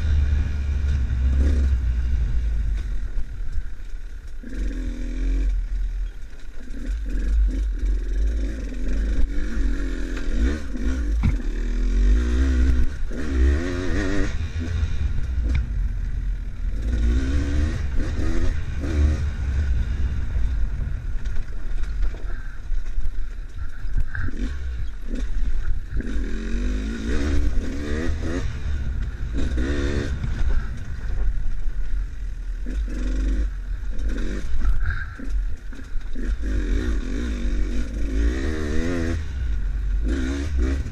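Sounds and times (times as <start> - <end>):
dirt bike engine revving: 0.0 - 3.3, 4.4 - 5.8, 6.6 - 22.5, 23.2 - 40.9.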